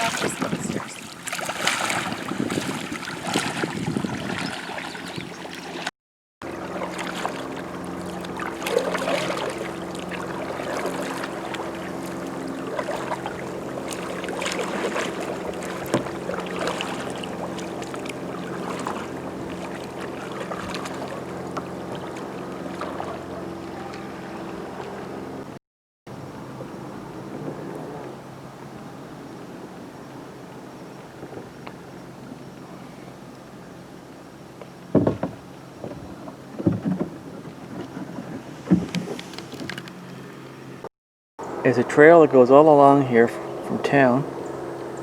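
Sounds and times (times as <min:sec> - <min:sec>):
paddle strokes splashing in water: 0:00.0 - 0:25.6, 0:26.4 - 0:40.4.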